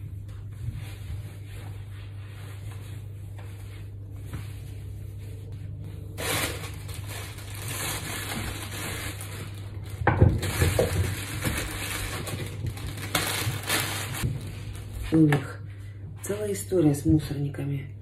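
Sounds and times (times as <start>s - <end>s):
low hum: 0.0s - 18.0s
rustling and crumpling: 0.2s - 15.3s.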